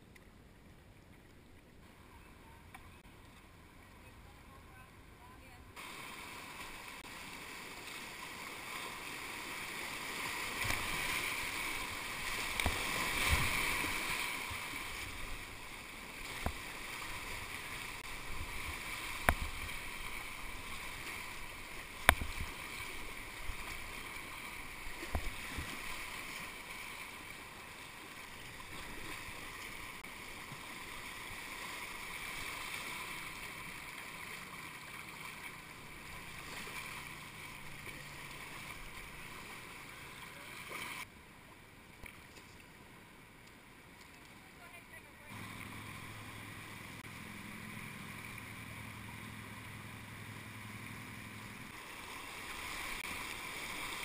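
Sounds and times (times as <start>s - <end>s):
paddle strokes splashing: 5.8s - 41.1s, 41.9s - 54.0s
whitewater rapids rushing: 5.8s - 41.1s, 45.3s - 54.0s.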